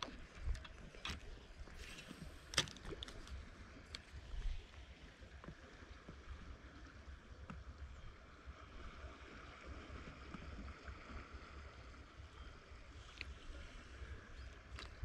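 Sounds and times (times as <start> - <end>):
low uneven rumble: 0.0 - 15.0.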